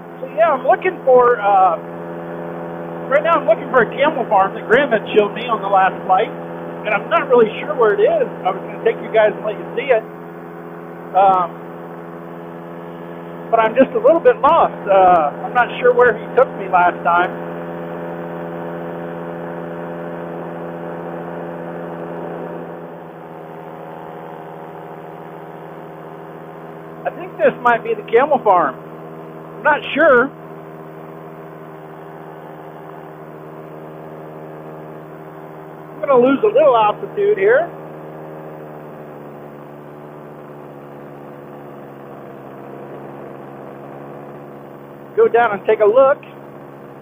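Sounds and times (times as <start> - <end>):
paramotor engine droning: 0.0 - 47.0.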